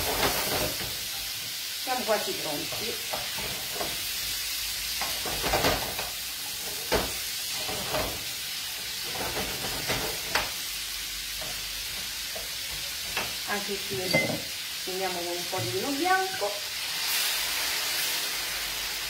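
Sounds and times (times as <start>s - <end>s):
prawns sizzling in a pan: 0.0s - 19.0s.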